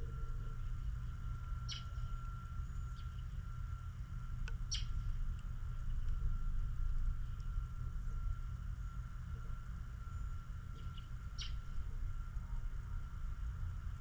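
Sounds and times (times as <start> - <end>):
faint high hum: 0.0 - 14.0
steady low rumble: 0.0 - 14.0.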